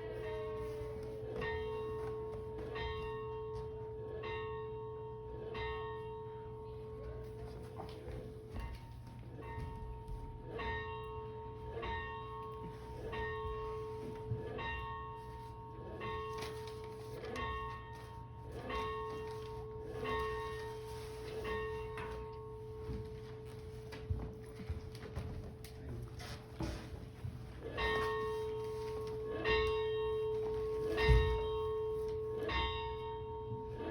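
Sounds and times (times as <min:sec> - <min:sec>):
large bell ringing: 0:00.0 - 0:24.2, 0:27.6 - 0:33.9.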